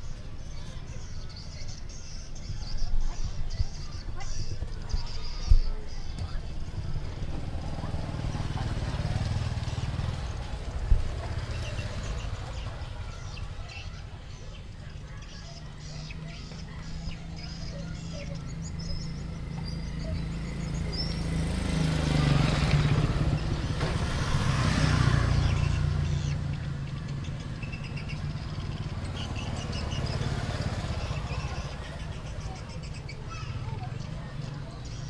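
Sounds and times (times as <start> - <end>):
faint bird chirps: 0.0 - 23.6, 24.6 - 35.0
motor vehicle passing: 0.0 - 35.0.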